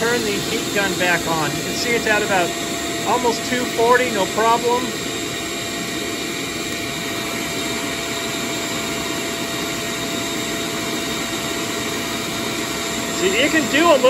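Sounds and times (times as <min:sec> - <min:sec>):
shop vac and heat gun whirring: 0:00.0 - 0:14.0.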